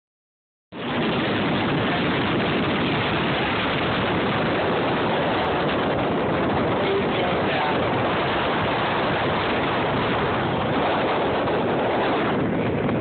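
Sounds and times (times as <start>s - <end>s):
wind and water rushing: 0.8s - 13.0s.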